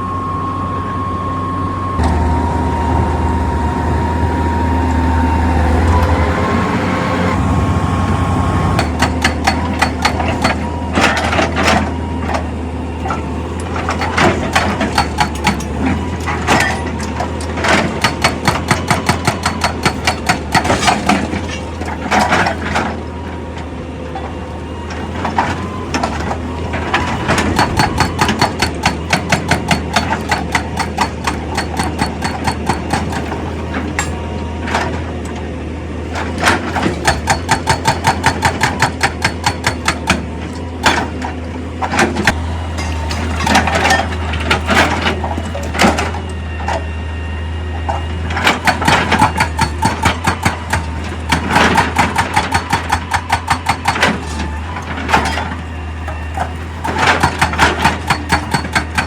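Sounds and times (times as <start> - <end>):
heavy machinery engine drone: 0.0 - 59.0.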